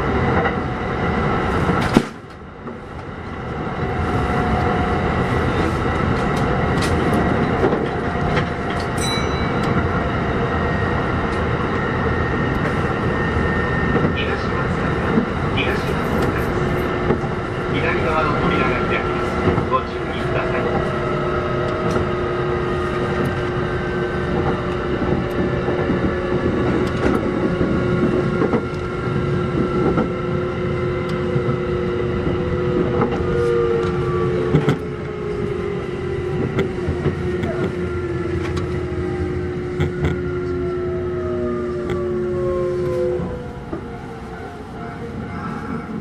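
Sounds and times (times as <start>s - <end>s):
train rumble: 0.0s - 46.0s.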